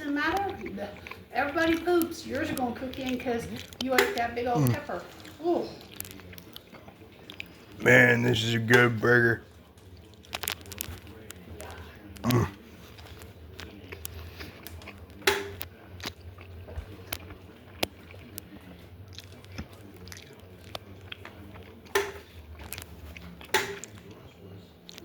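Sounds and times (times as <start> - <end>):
person chewing and biting: 0.4 - 9.3, 12.1 - 24.2.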